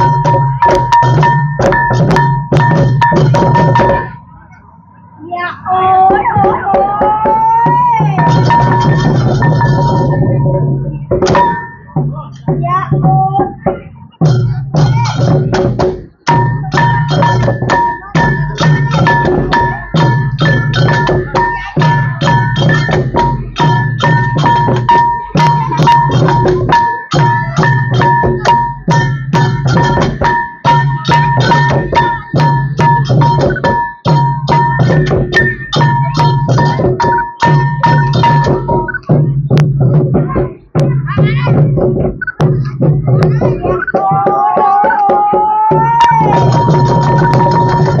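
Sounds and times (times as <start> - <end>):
fast drum and percussion strikes: 0.0 - 4.2, 5.3 - 48.0.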